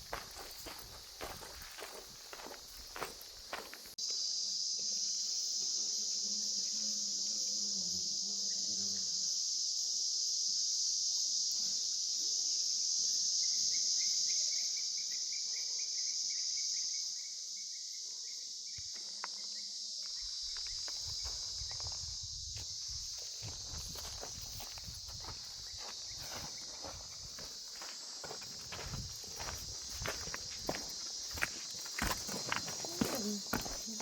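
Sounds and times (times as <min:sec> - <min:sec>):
insects chorus: 0:00.0 - 0:34.0
rapid insect chirps: 0:00.0 - 0:34.0.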